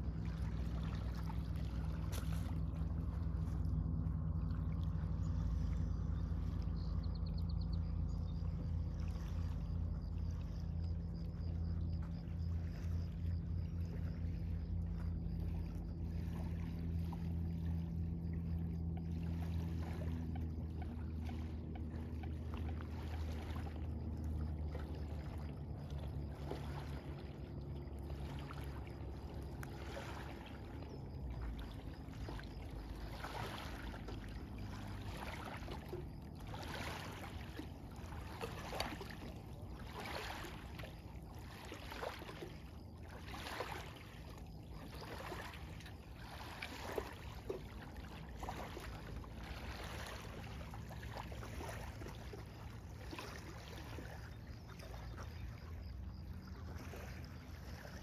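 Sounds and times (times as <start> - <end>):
small waves lapping: 0.0 - 58.0.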